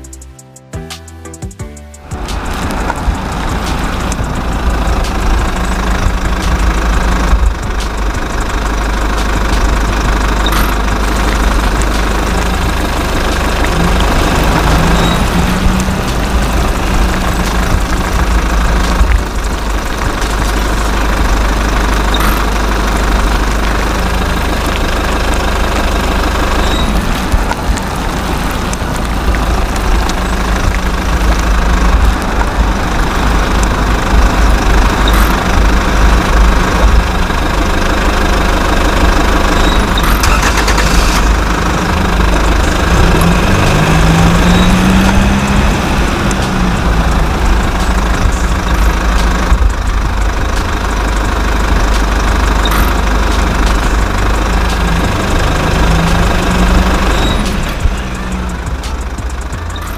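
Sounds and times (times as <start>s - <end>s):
motor running with pulsing thrum: 2.3s - 59.9s.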